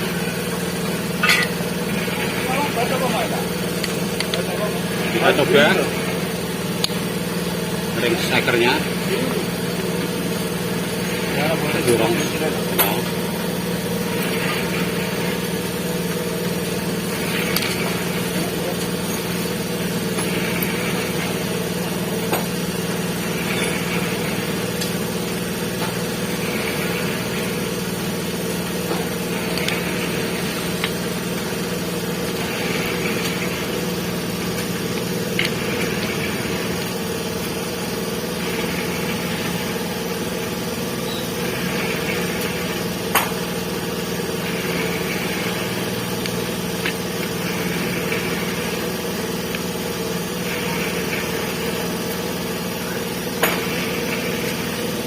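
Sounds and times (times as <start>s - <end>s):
motor hum: 0.0s - 55.0s.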